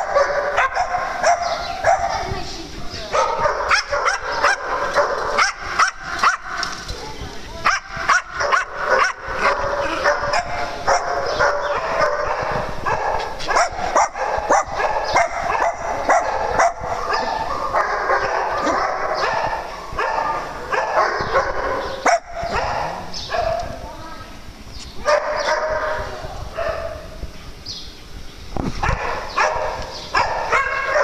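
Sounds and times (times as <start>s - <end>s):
small dogs barking and yipping: 0.0s - 23.9s, 25.0s - 27.1s, 28.8s - 31.0s.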